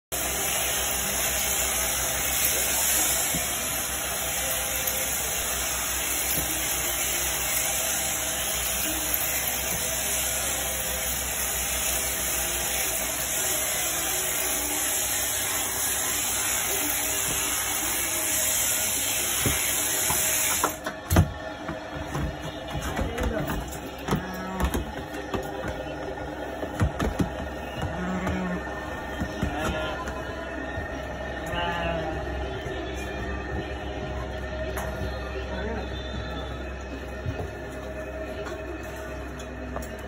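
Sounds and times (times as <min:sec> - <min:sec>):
sheep shears humming: 0:00.1 - 0:40.0.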